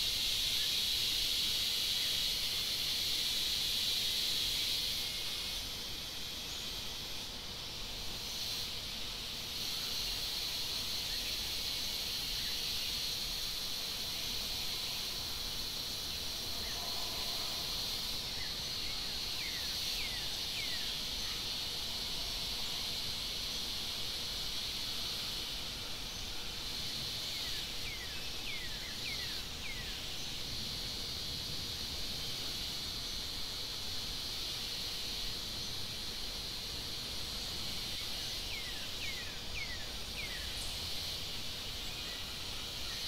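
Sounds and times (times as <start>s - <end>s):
insect chorus drone: 0.0s - 43.0s.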